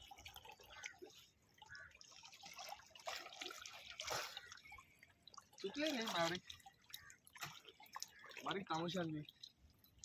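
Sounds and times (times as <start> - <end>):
water splashes and drips: 0.0 - 10.0.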